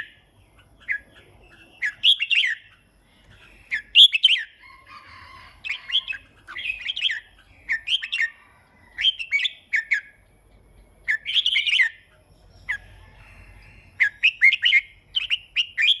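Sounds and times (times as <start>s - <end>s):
bird singing whistled notes: 0.0s - 4.6s, 5.7s - 10.2s, 11.0s - 16.0s.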